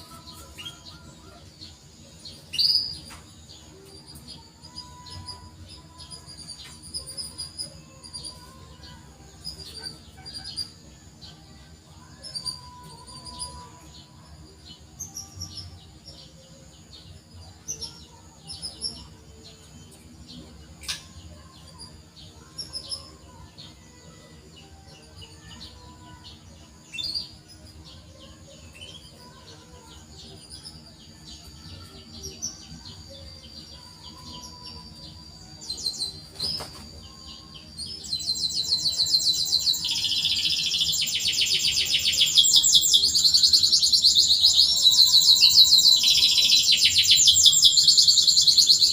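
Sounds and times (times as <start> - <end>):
canary chirping: 0.0 - 48.9
canary trilling song: 0.0 - 48.9.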